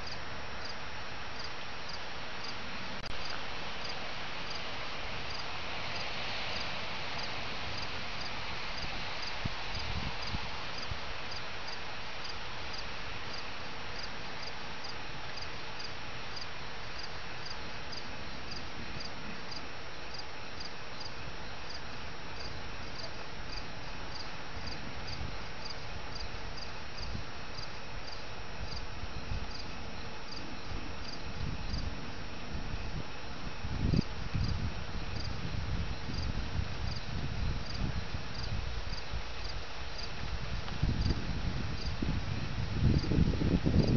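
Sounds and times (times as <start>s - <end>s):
crickets chirping: 0.0s - 43.9s.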